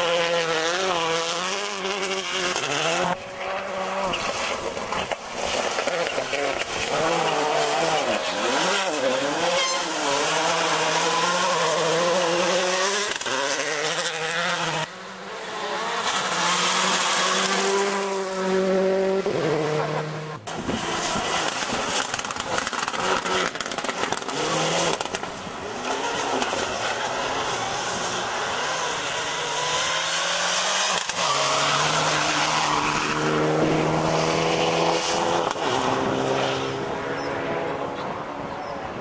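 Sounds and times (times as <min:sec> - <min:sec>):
rally car engines revving: 0:00.0 - 0:39.0.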